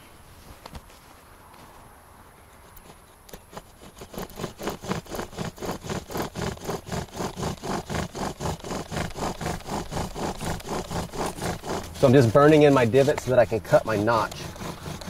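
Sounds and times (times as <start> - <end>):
bow drill spindle rasping: 2.5 - 15.0.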